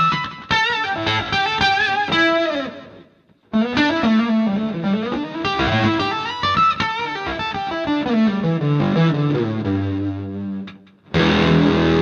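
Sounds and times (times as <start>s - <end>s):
distorted electric guitar lead: 0.0s - 12.0s.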